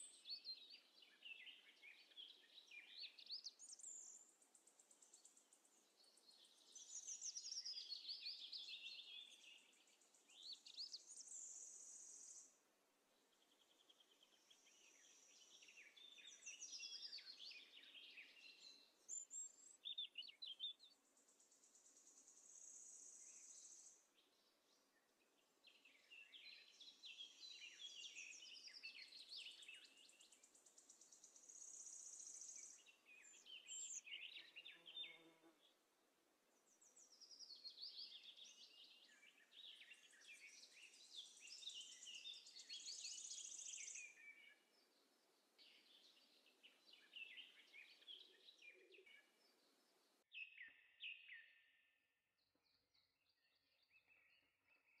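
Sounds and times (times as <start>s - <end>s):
small birds chirping: 0.0s - 35.9s, 36.6s - 55.0s.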